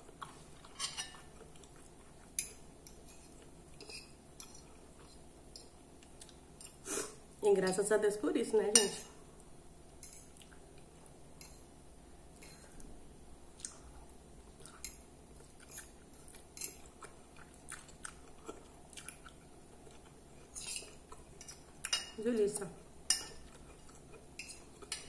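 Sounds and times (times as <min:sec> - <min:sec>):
faint chewing: 0:00.0 - 0:06.8, 0:09.4 - 0:11.6, 0:12.4 - 0:25.0.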